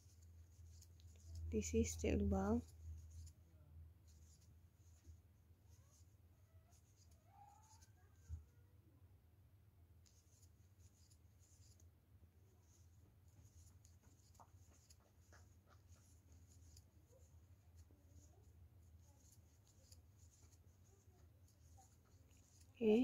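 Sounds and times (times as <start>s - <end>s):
crochet hook scratching yarn: 0.0s - 3.4s, 4.0s - 8.4s, 10.0s - 11.9s, 12.5s - 23.0s.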